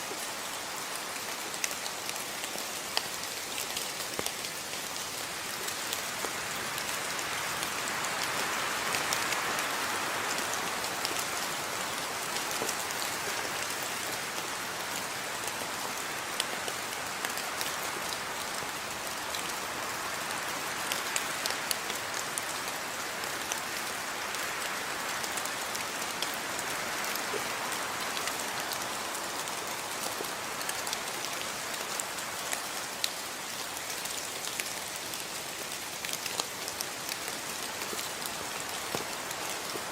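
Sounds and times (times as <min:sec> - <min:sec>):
steady rain hiss: 0:00.0 - 0:39.9
raindrops ticking on surface: 0:00.1 - 0:39.9.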